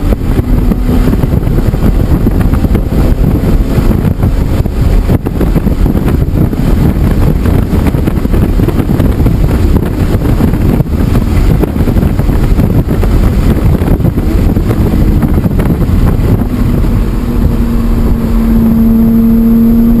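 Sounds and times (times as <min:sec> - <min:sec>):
car engine drone: 0:00.0 - 0:20.0
wind buffeting microphone: 0:00.0 - 0:20.0.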